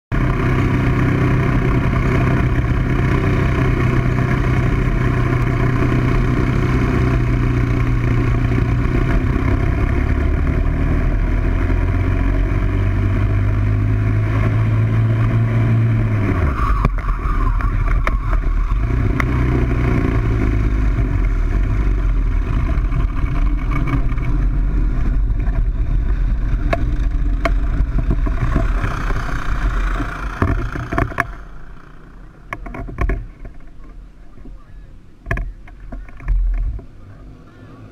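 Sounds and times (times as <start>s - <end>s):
kart engine at high revs: 0.1s - 33.7s, 36.8s - 37.9s
wind noise: 0.2s - 31.5s.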